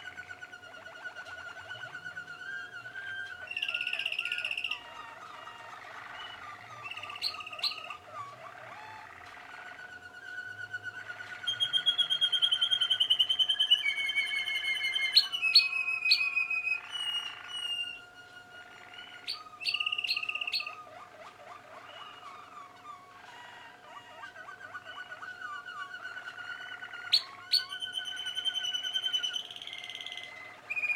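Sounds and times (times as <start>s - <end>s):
canaries singing trills: 0.0s - 30.9s.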